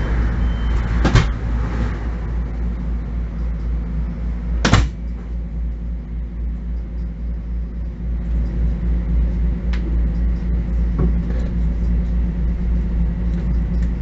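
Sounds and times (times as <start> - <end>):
railcar interior rumble: 0.0 - 14.0.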